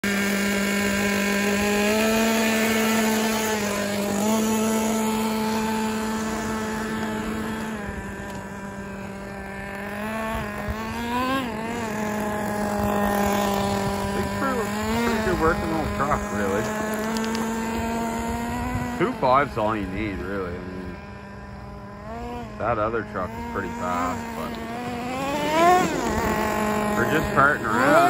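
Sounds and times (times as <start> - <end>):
rc truck engine buzzing: 0.0 - 28.0.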